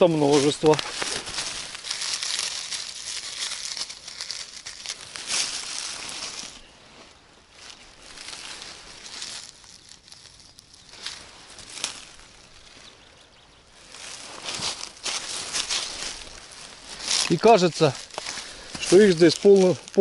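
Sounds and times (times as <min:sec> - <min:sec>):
dry leaves crackling: 0:00.0 - 0:20.0.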